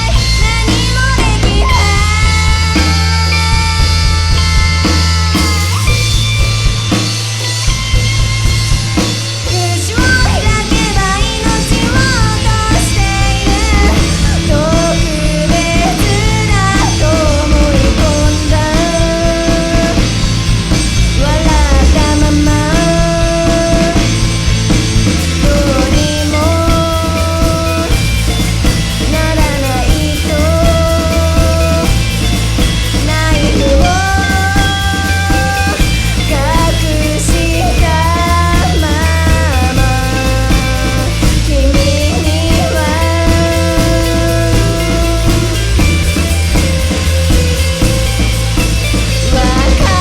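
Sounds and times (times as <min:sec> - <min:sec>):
bass: 0:00.0 - 0:50.0
drums: 0:00.0 - 0:50.0
sliding lead melody: 0:00.0 - 0:50.0.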